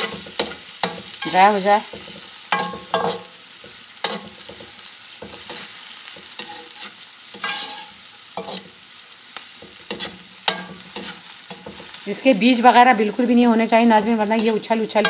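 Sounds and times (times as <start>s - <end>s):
metal spoon scraping a wok: 0.0s - 8.8s, 9.6s - 12.0s, 14.2s - 15.0s
vegetables sizzling in oil: 0.0s - 15.0s.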